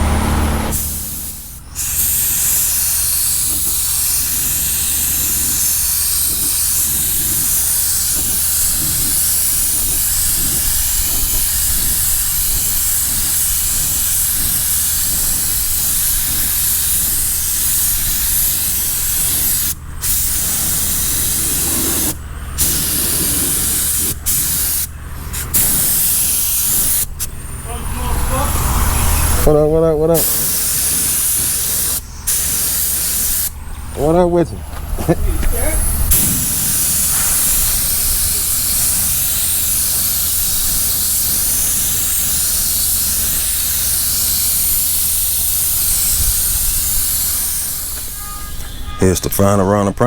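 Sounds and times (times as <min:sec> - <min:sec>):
spray gun hissing: 0:00.0 - 0:34.4, 0:35.1 - 0:49.6.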